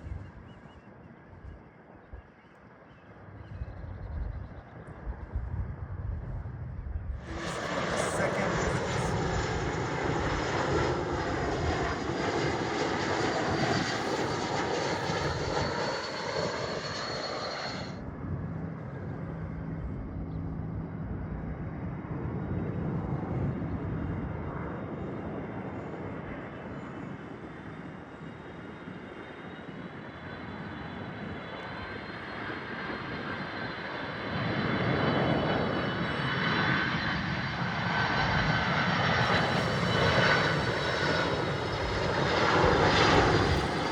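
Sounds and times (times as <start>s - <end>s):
distant jet rumble: 0.0s - 43.9s
jet engines with turbine whine: 0.0s - 43.9s.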